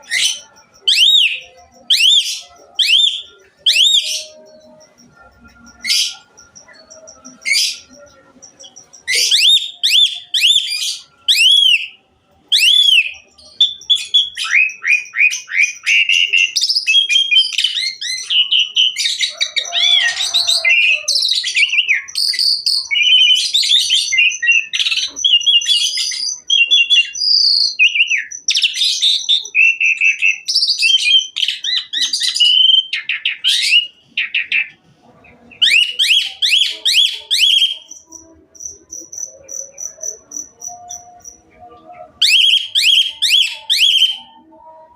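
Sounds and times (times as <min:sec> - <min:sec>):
bird whistles and chirps: 0:00.0 - 0:05.2, 0:08.6 - 0:34.7, 0:35.6 - 0:38.2, 0:39.1 - 0:44.9.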